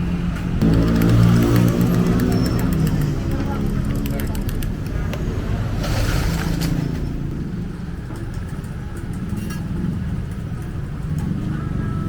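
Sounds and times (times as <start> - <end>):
vehicle engines running: 0.0 - 12.0.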